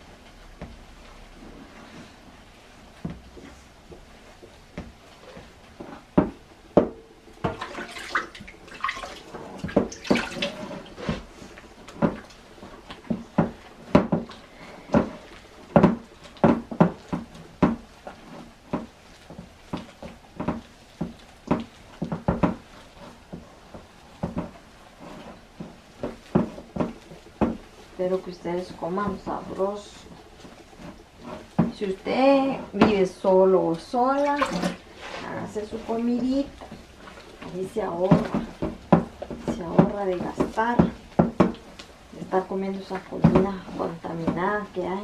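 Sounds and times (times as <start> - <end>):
hands squelching wet dough: 7.4 - 45.0.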